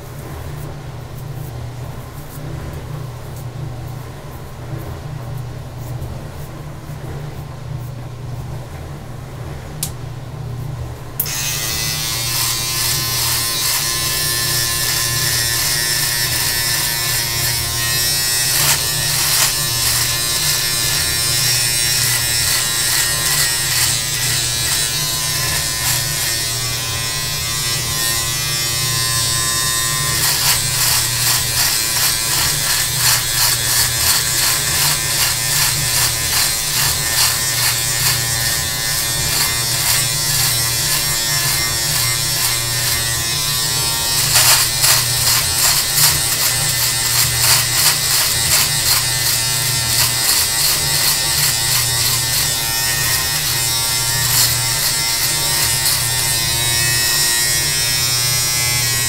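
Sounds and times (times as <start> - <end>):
electric beard trimmer buzzing: 11.2 - 59.0.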